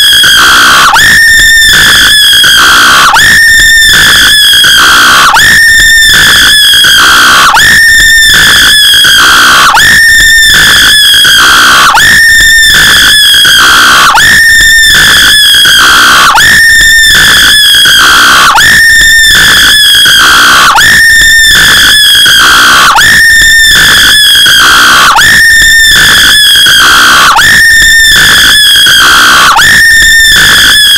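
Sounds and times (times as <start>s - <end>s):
high scream looped: 0.0s - 30.9s.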